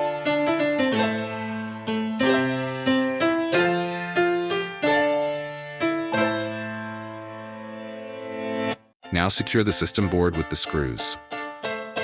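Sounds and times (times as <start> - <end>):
electric piano chords: 0.0 - 12.0.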